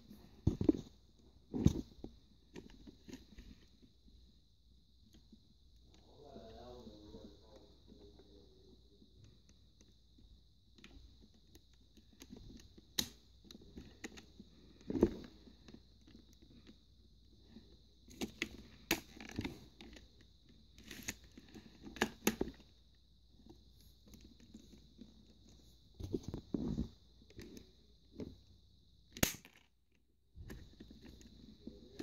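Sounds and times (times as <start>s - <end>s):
faint steady hiss: 0.0s - 29.6s, 30.4s - 32.0s.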